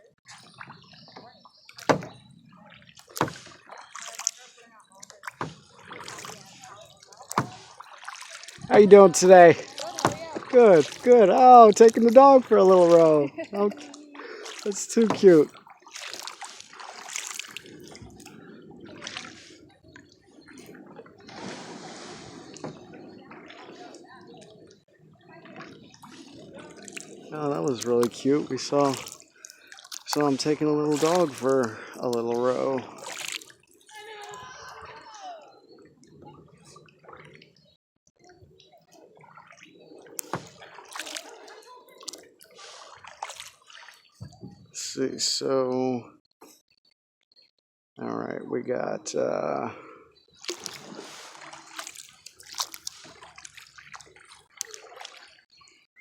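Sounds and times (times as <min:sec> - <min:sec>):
paddle swishing through water: 0:00.0 - 0:45.0, 0:50.2 - 0:55.8
water dripping off paddle: 0:00.3 - 0:35.4, 0:38.6 - 0:44.4, 0:50.3 - 0:55.4.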